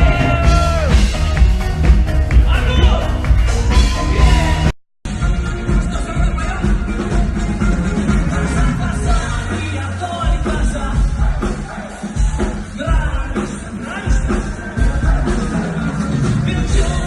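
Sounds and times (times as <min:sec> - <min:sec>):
live pop-rock band: 0:00.0 - 0:17.0.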